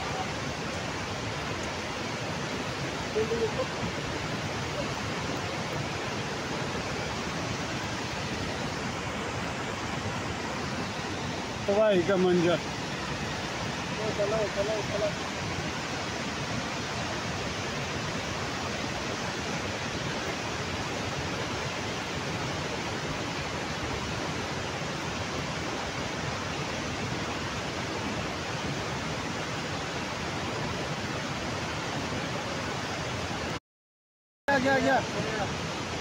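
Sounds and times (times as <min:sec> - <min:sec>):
flooded river rushing: 0:00.0 - 0:33.6, 0:34.5 - 0:36.0.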